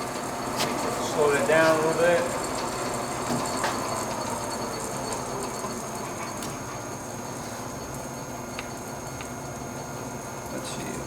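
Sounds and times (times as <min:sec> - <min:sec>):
lathe gearing whirring: 0:00.0 - 0:09.8.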